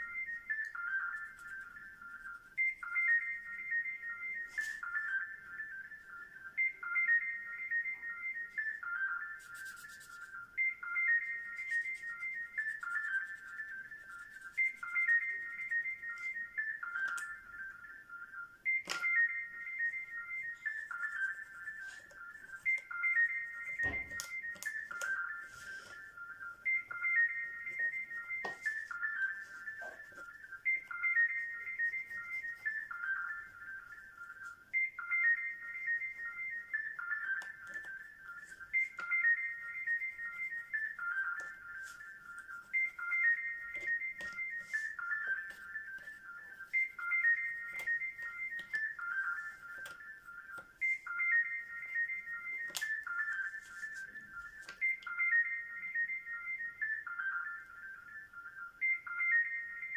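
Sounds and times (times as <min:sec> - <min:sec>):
ringtone-like melody: 0:00.0 - 0:59.9.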